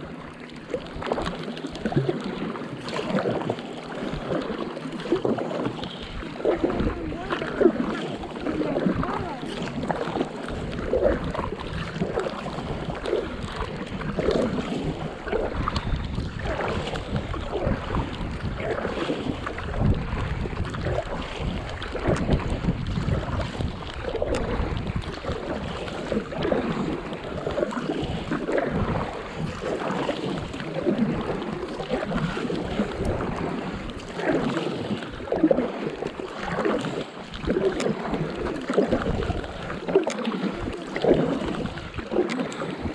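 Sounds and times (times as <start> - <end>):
paddle splashing through water: 0.0 - 42.9
water lapping: 0.0 - 42.9
wind rumble on microphone: 0.8 - 42.9.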